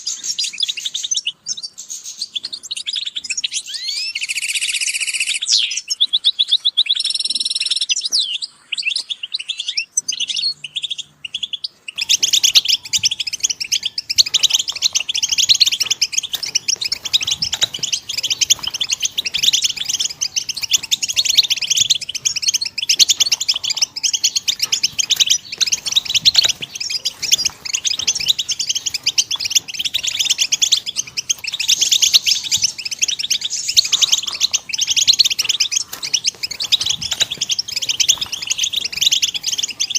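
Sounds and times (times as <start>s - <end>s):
finches singing and twittering: 0.0s - 39.9s.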